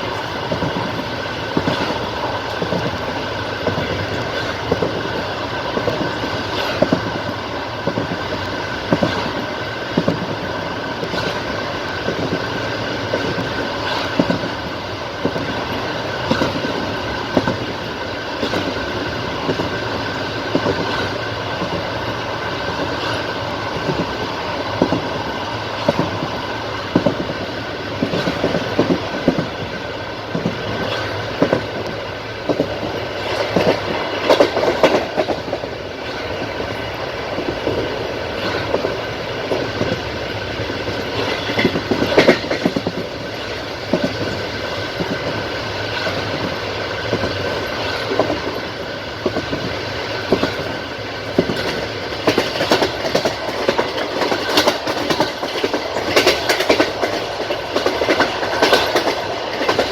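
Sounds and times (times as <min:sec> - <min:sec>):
rumble of moving carriage: 0:00.0 - 0:59.9
train wheels clattering on rail joints: 0:00.0 - 0:59.9.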